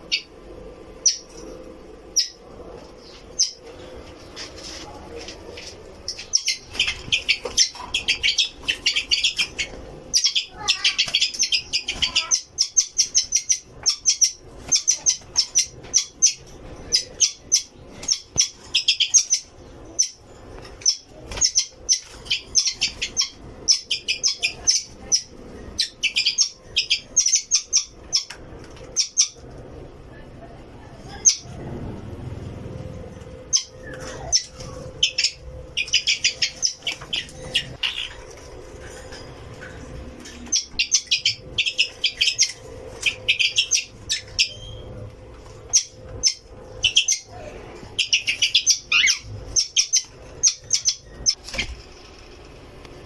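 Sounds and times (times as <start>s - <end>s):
small birds chirping: 0.0s - 0.4s, 1.0s - 29.7s, 30.9s - 38.4s, 39.6s - 51.8s.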